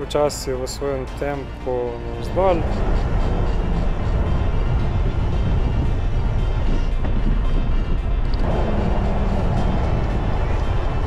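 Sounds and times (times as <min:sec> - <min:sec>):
background music: 0:00.0 - 0:11.0
wind rushing on microphone: 0:00.6 - 0:11.0.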